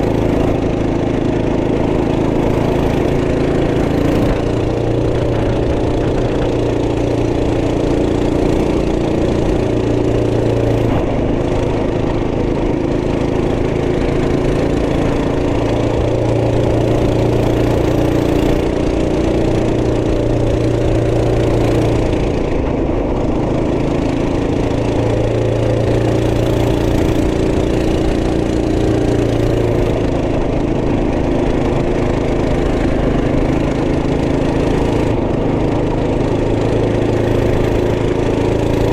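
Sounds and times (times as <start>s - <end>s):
minibike engine running: 0.0s - 38.9s.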